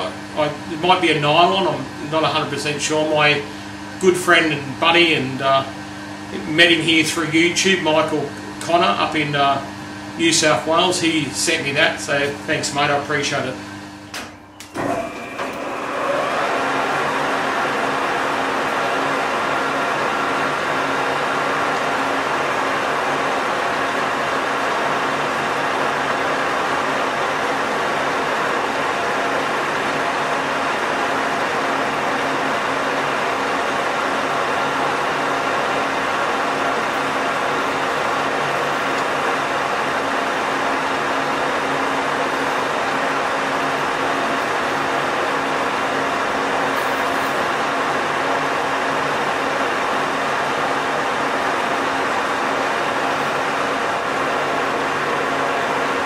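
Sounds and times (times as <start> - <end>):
metal lathe whirring: 9.8 - 56.0.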